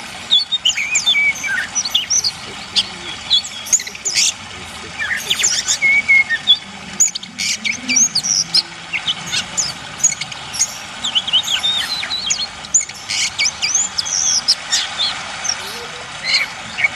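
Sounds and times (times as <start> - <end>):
songbirds chirping: 0.0 - 16.9
trickle of running water: 0.0 - 16.9.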